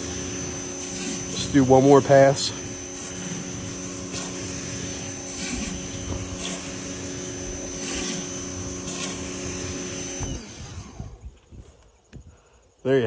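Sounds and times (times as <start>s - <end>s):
high-pressure water hissing: 0.0s - 10.7s
pressure washer pump hum: 0.0s - 11.3s.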